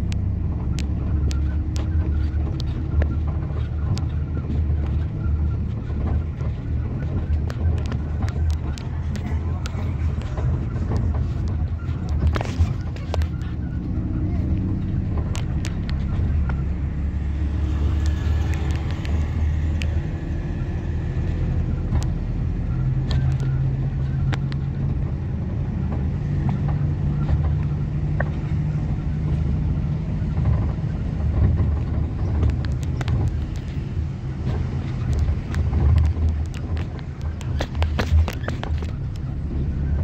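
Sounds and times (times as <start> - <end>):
small rattles and clicks: 0.0 - 16.7, 21.1 - 40.0
engine and road rumble: 0.0 - 40.0.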